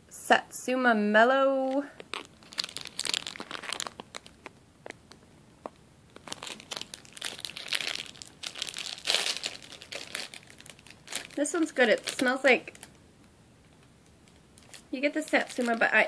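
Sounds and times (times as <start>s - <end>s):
plastic bag crinkling: 1.6s - 13.0s, 13.7s - 16.0s.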